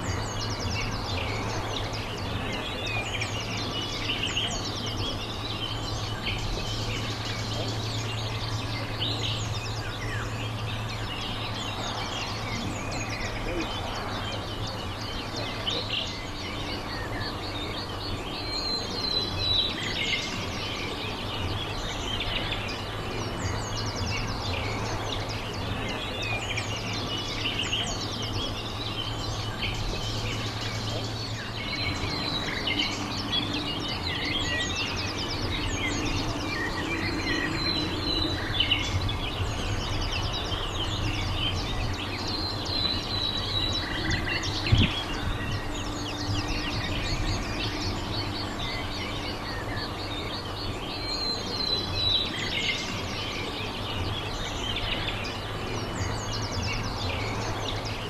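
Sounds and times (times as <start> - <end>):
low background hum: 0.0 - 58.0
small birds chirping and singing: 0.0 - 58.0.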